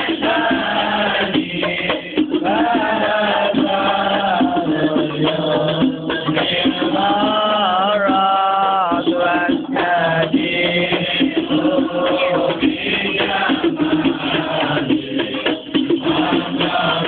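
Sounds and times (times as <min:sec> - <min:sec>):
hand drums beat: 0:00.0 - 0:17.0
men chanting devotional song: 0:00.0 - 0:17.0
rattling percussion: 0:00.0 - 0:17.0.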